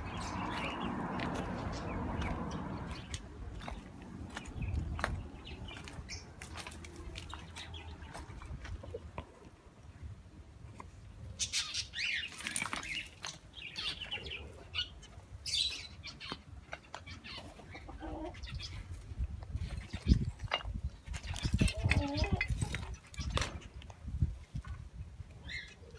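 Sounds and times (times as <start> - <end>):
birds chirping: 0.0 - 10.2, 10.8 - 24.6, 25.3 - 25.9.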